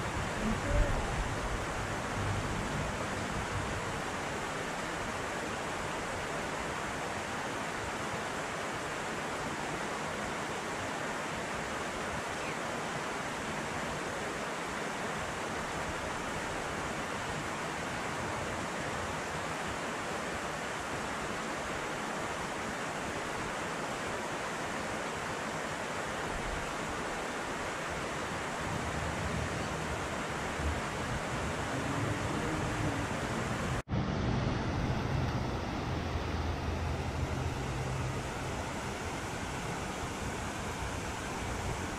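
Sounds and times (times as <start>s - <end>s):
water rushing over rocks: 0.0s - 41.9s.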